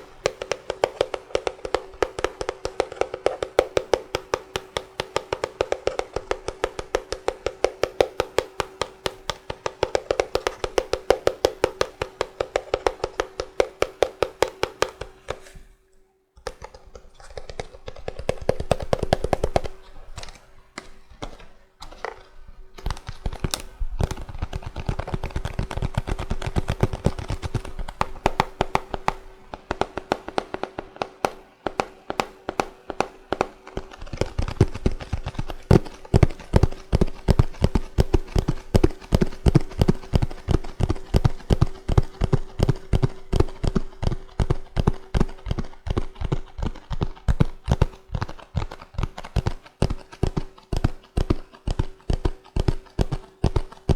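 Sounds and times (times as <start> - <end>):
fingers tapping on cardboard box: 0.0 - 15.6, 16.4 - 53.9.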